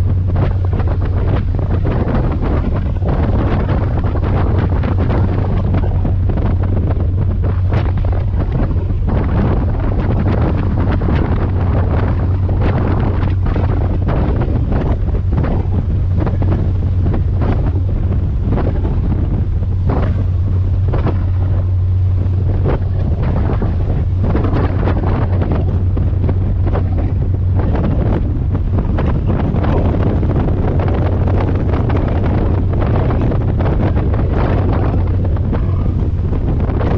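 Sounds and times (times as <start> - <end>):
boat engines droning: 0.0 - 36.9
wind buffeting microphone: 0.0 - 36.9.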